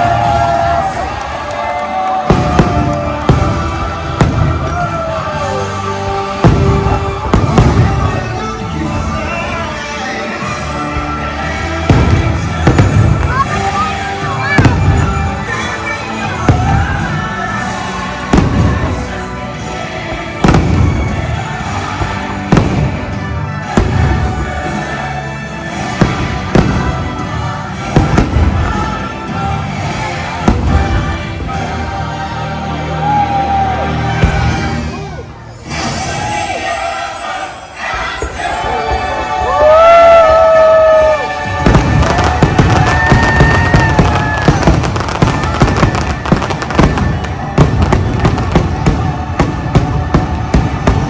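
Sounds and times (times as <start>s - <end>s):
fireworks bangs: 0.0s - 32.0s, 34.0s - 36.8s, 38.2s - 51.0s
loud show music: 0.0s - 37.3s, 37.9s - 51.0s.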